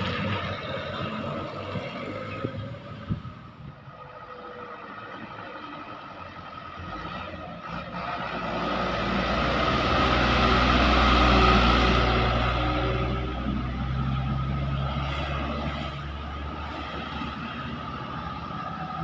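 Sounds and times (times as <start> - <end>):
heavy truck engine droning: 0.0 - 19.0.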